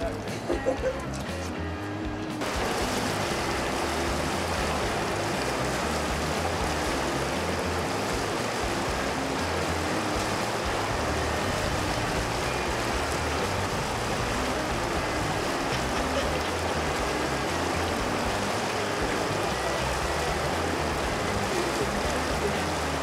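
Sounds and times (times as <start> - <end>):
fast river rushing over rocks: 2.4 - 23.0.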